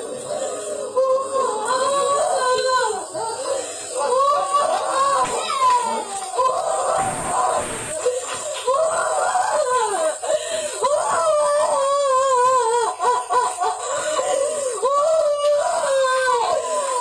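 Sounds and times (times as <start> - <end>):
woman wailing and sobbing: 0.0 - 17.0.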